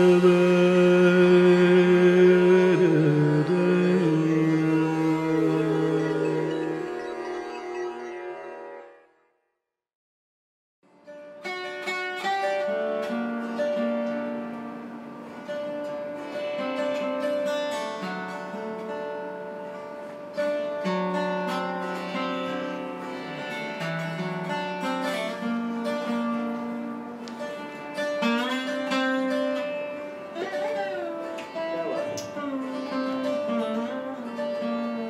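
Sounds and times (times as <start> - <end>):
slide guitar melody: 0.0 - 8.8, 11.1 - 35.0.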